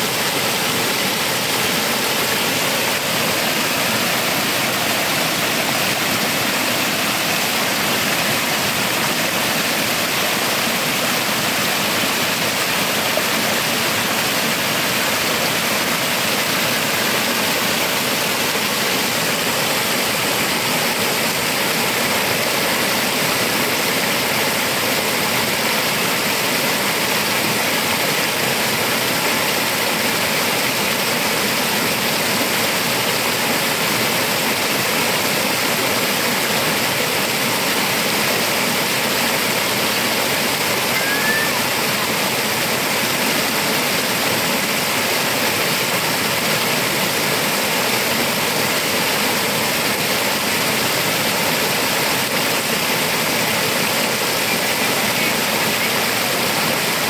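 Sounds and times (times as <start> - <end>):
stream water rushing over boulders: 0.0 - 57.0.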